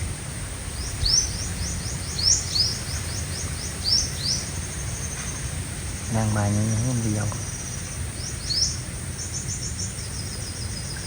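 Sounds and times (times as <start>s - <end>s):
bird chirping rapidly: 0.8s - 5.3s, 6.0s - 11.0s.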